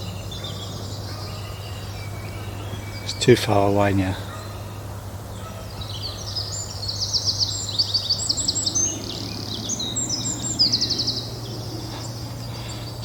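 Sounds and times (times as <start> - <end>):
wren singing with trills: 0.0 - 13.0.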